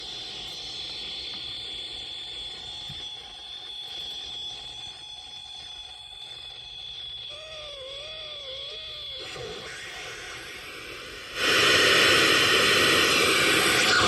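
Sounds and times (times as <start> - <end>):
constant hiss: 0.0 - 14.0
high-pitched machine whine: 0.0 - 14.0.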